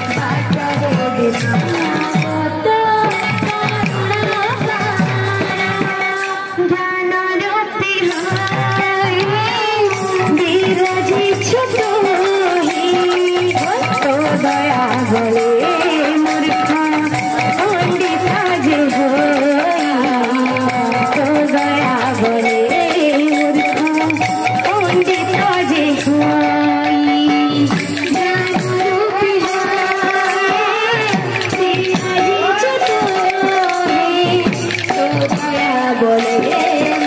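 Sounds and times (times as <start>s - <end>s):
barrel drum beat: 0.0s - 6.4s, 8.1s - 37.0s
person singing devotional melody: 0.0s - 37.0s.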